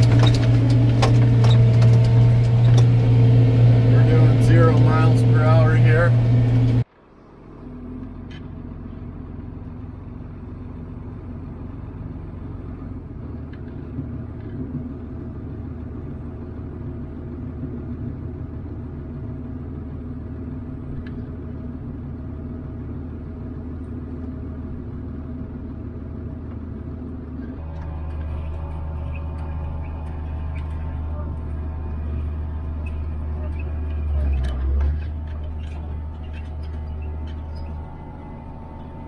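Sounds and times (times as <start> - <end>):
farm machinery diesel engine drone: 0.0 - 39.0.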